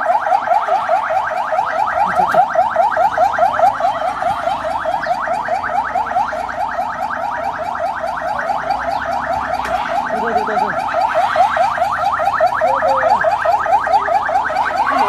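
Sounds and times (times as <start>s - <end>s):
ambulance siren yelping: 0.0s - 15.0s.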